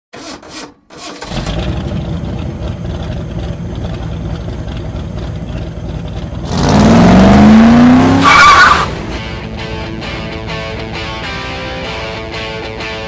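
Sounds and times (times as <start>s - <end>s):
car engine starting and idling: 0.9s - 12.1s
car engine revving: 1.2s - 12.0s.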